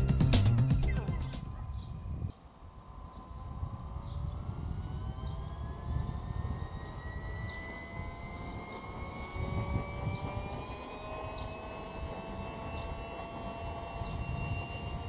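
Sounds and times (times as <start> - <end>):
jet turbine whining: 0.0 - 15.0.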